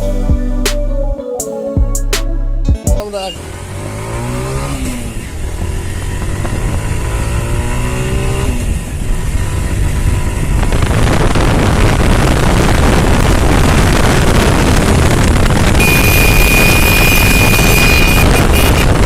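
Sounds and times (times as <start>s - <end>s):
motorcycle engine accelerating: 3.2s - 19.0s.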